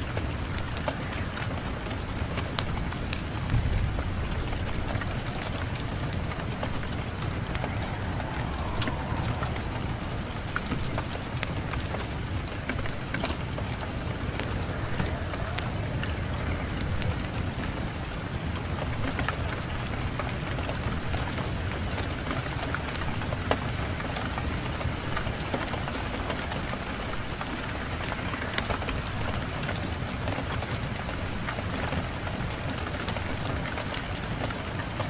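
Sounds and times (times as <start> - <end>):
wood fire crackling: 0.0 - 30.1
low rush of wind: 0.0 - 35.0.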